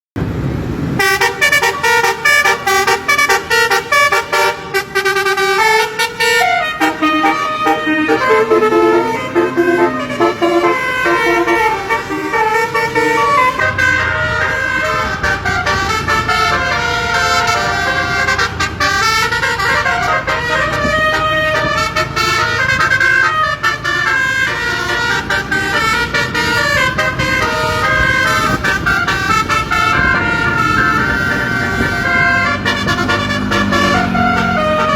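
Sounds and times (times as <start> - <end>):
multi-tone bus horn melody: 0.8 - 34.9.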